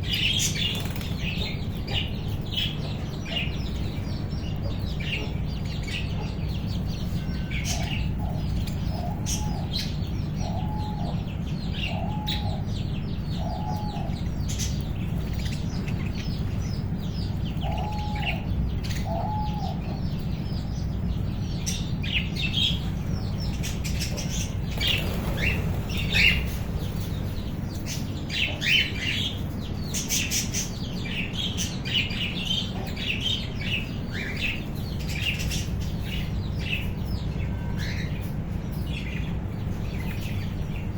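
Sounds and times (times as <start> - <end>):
birds chattering and chirping: 0.0 - 40.9
steady low hum: 0.0 - 40.9.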